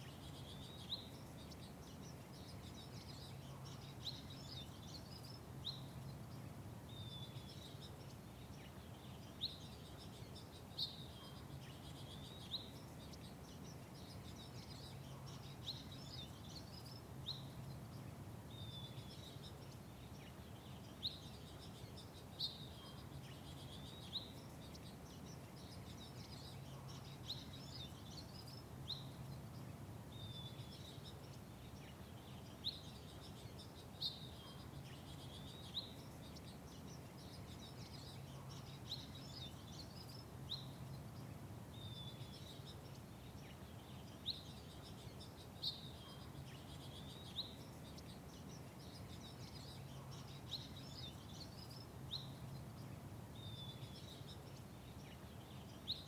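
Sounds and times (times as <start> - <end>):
faint bird twittering: 0.0 - 56.0
small birds chirping: 0.0 - 56.0.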